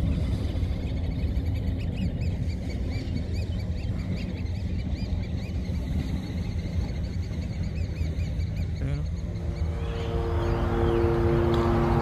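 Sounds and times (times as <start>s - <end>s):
birds chirping: 0.0s - 12.0s
boat engines rumbling: 0.0s - 12.0s.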